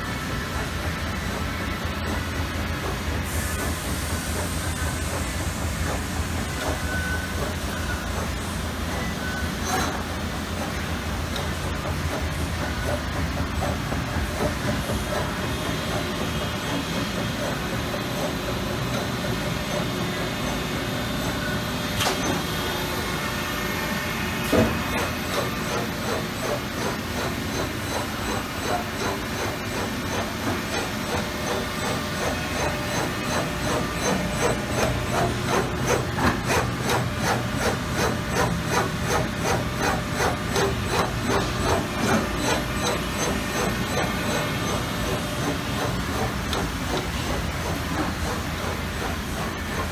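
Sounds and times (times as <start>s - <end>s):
machine hum and hiss: 0.0s - 49.9s.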